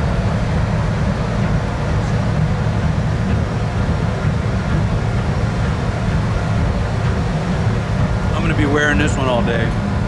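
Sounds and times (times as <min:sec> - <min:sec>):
ship engine drone: 0:00.0 - 0:10.0.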